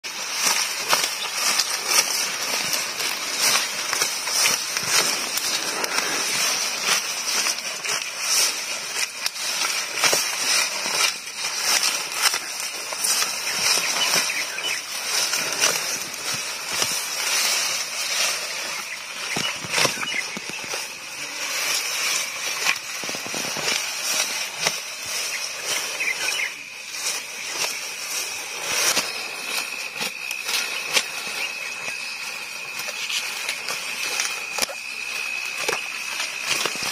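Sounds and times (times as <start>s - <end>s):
buffalo tearing and munching grass: 0.0s - 36.9s
high-pitched drone: 0.1s - 36.9s.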